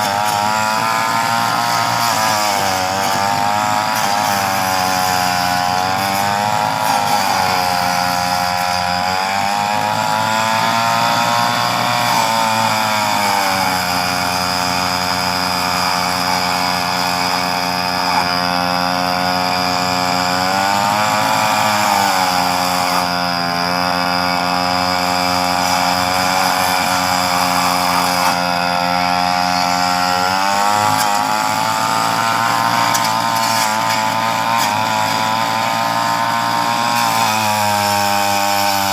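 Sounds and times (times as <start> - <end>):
chainsaw cutting branches: 0.0 - 38.9.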